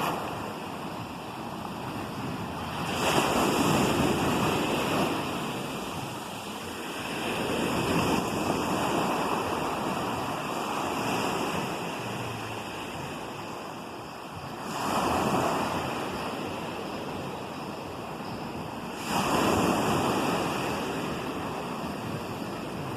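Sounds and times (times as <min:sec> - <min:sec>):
ocean waves breaking: 0:00.0 - 0:22.9
wind noise on microphone: 0:00.0 - 0:22.9.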